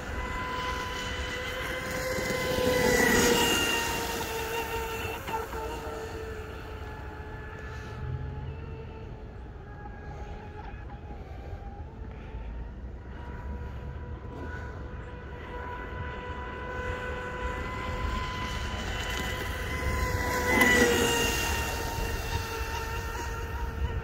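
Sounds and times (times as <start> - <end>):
rc boat motor whine: 0.0 - 24.0.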